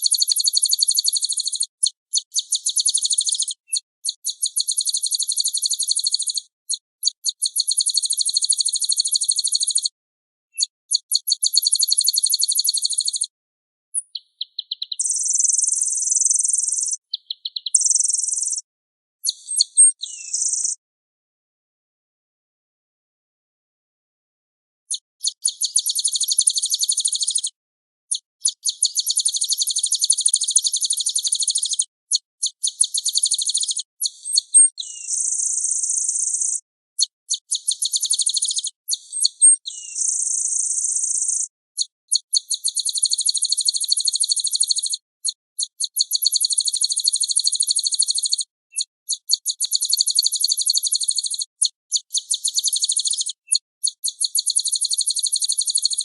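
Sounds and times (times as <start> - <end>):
songbird singing fast trills: 0.0 - 6.4, 7.0 - 9.9, 10.6 - 13.3, 14.0 - 18.6, 19.3 - 20.8, 25.3 - 27.5, 28.1 - 31.9, 32.6 - 36.6, 37.3 - 45.0, 45.7 - 56.0.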